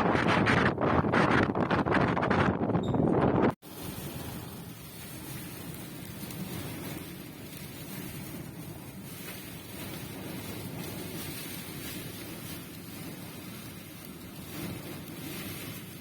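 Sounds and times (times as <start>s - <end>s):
wind rushing: 0.0s - 16.0s.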